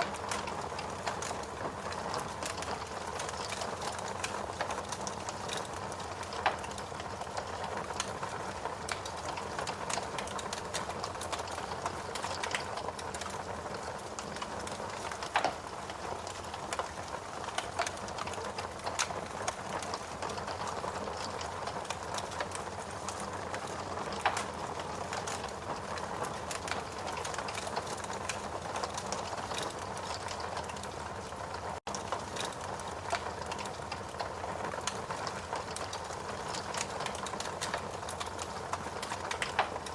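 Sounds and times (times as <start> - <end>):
rain hissing: 0.0 - 39.9
wood fire crackling: 0.0 - 39.9.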